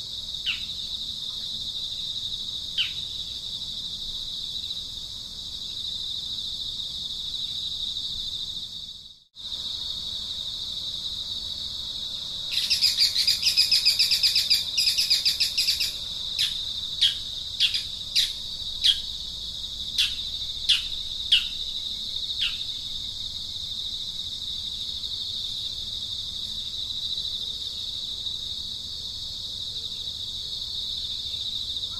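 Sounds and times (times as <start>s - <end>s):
high insect drone: 0.0s - 31.9s.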